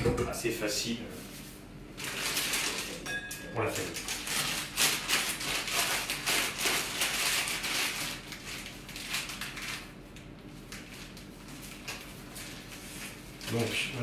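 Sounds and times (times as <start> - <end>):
plastic bag crinkling: 2.0 - 14.0.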